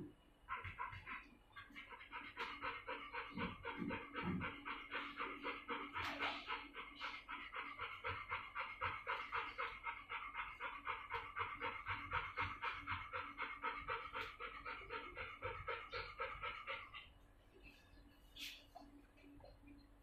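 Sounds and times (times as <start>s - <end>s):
dog panting rapidly: 0.5s - 17.2s.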